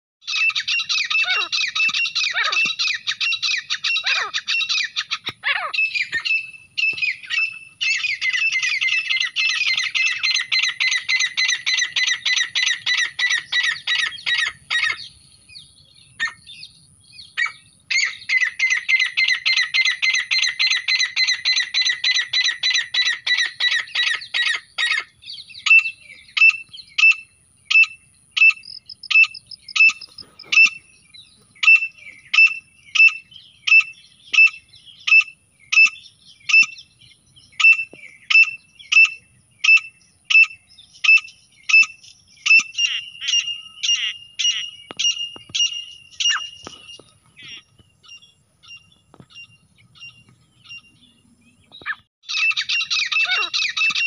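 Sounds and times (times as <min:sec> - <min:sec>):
francolins calling: 0:00.2 - 0:54.0.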